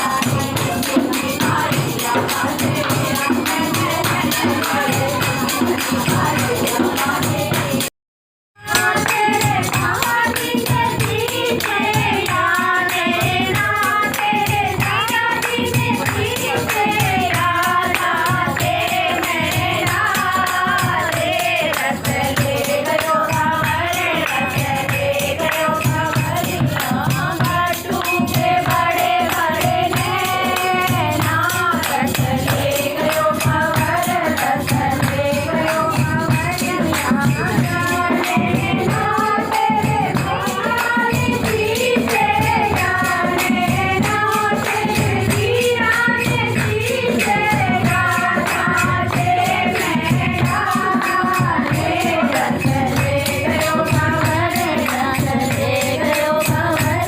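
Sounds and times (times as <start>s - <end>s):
group singing: 0.0s - 7.9s, 8.6s - 57.0s
jingling percussion beat: 0.0s - 7.9s, 8.6s - 57.0s.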